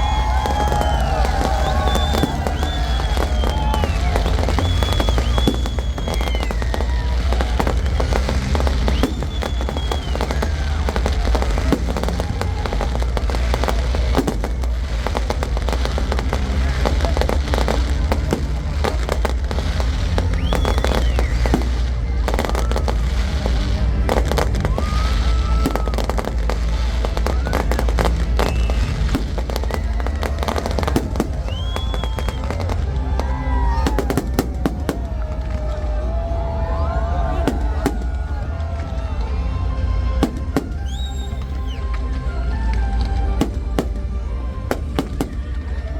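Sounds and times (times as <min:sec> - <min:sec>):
continuous low rumble: 0:00.0 - 0:45.9
fireworks bangs and crackles: 0:00.0 - 0:45.9.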